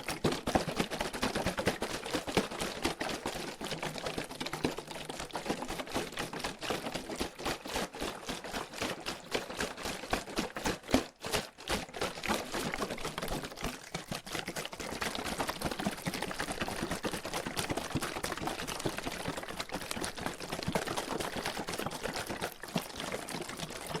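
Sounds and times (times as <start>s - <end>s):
water sloshing in plastic bottle: 0.0s - 24.0s.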